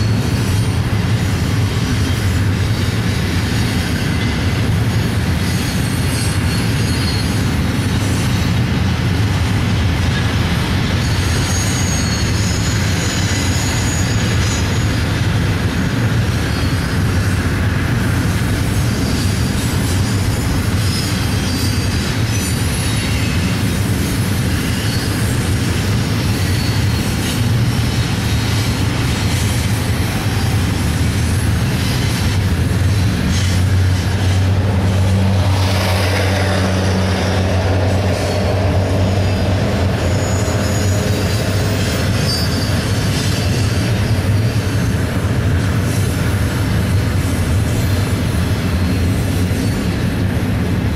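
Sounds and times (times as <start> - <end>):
high wheel squeal: 0.0 - 8.7, 10.0 - 50.4
freight train wheels rumbling: 0.0 - 50.9.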